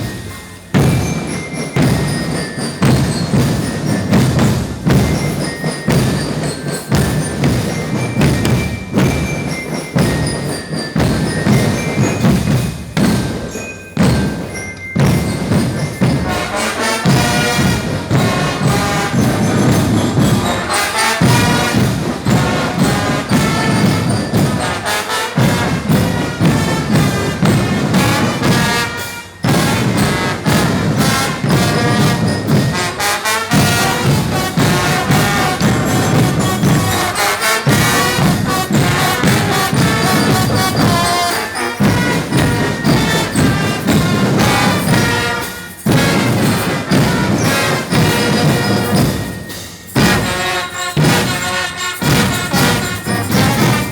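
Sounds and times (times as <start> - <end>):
brass band music with drums: 0.0 - 53.9.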